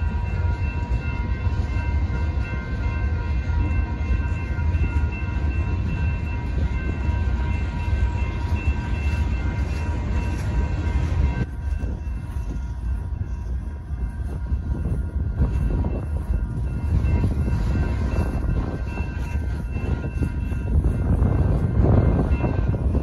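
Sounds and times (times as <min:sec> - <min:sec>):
crossing warning bells ringing: 0:00.0 - 0:23.0
freight train rumbling: 0:00.0 - 0:23.0.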